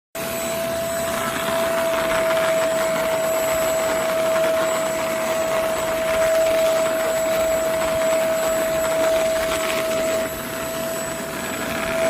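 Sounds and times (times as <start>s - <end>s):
vacuum cleaner running: 0.2s - 12.0s.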